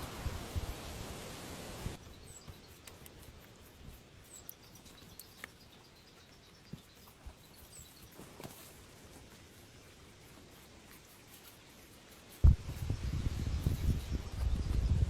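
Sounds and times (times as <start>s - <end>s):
rustling: 0.0s - 15.0s
small bird chirping: 2.0s - 8.7s, 9.6s - 15.0s.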